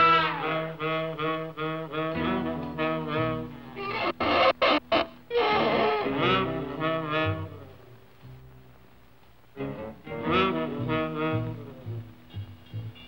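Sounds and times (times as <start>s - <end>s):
cartoon music with brass phrases: 0.0s - 8.2s, 9.6s - 13.0s.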